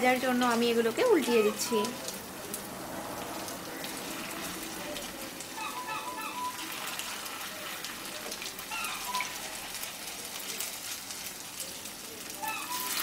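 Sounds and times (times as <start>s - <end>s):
deep-frying sizzle with crackles: 0.0s - 13.0s.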